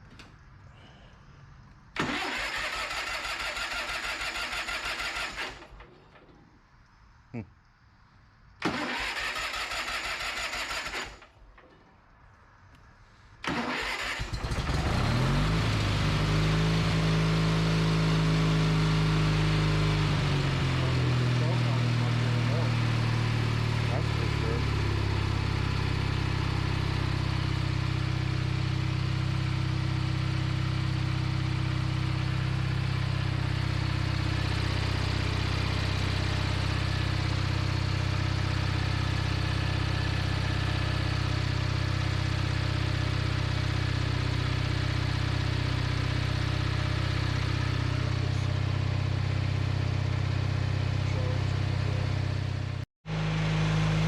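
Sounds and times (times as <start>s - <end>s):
riding mower engine idling: 0.0s - 6.5s, 8.6s - 12.0s, 12.6s - 54.0s.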